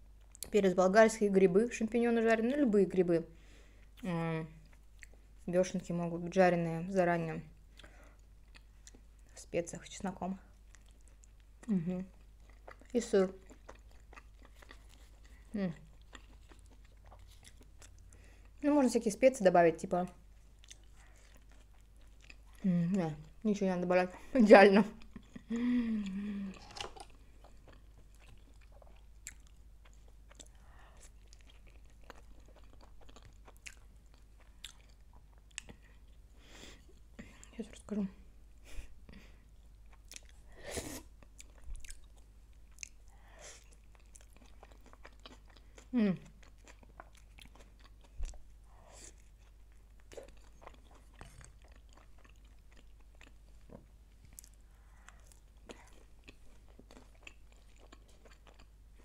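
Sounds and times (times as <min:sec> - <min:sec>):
chewing with soft crunches: 0:03.7 - 0:05.5, 0:07.4 - 0:09.4, 0:10.2 - 0:19.0, 0:20.0 - 0:23.4, 0:24.2 - 0:38.0, 0:38.7 - 0:59.0.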